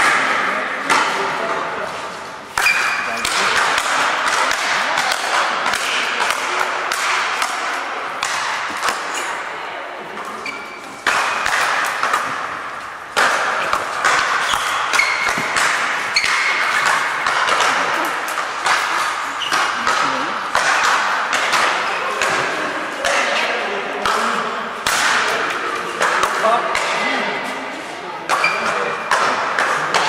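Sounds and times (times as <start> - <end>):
rackets hitting ball: 0.0 - 30.0
voices in a hall: 0.0 - 30.0.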